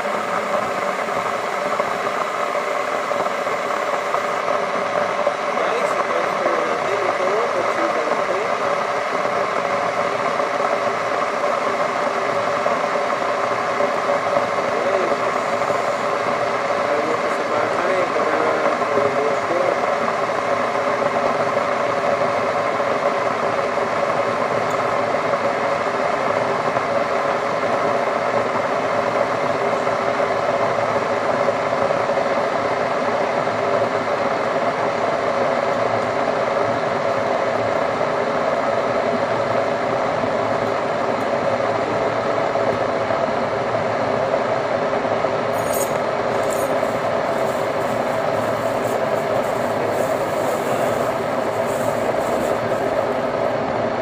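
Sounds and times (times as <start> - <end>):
mechanical whir and rumble: 0.0 - 54.0.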